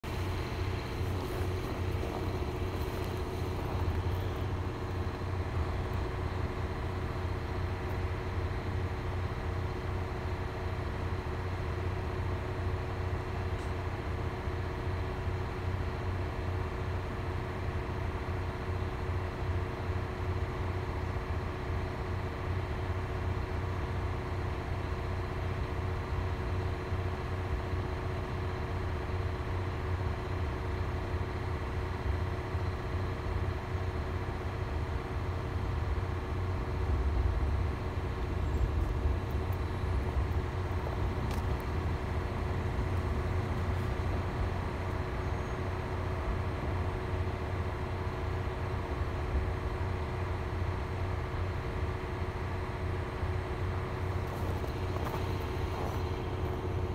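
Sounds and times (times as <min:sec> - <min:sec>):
diesel railcar engine rumble: 0:00.0 - 0:56.9.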